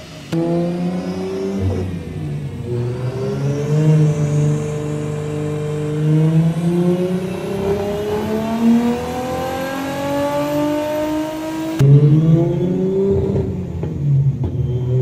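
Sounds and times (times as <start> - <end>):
car engine revving under load: 0.0 - 15.0
wheels driving dyno rollers: 0.0 - 15.0.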